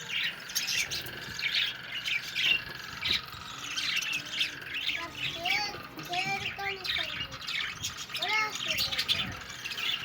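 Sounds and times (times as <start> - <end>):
budgerigars chattering: 0.0 - 10.0.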